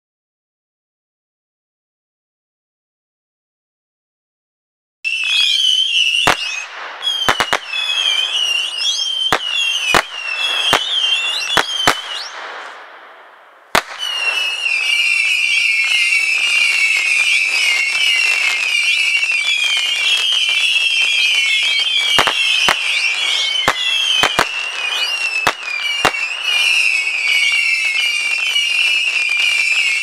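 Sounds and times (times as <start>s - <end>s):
whistling rockets: 5.0s - 30.0s
firework reports: 5.1s - 30.0s.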